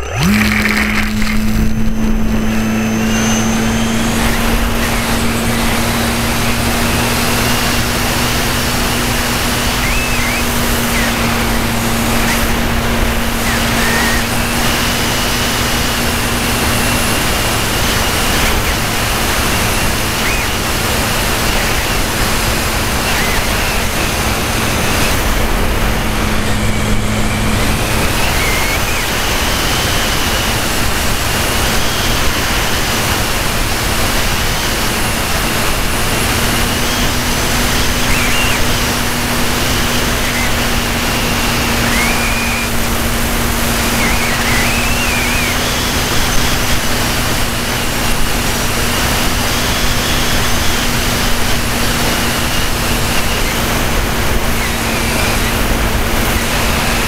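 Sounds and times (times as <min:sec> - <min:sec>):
model airplane motor hum: 0:00.0 - 0:57.0
wind rushing over microphone: 0:01.2 - 0:57.0.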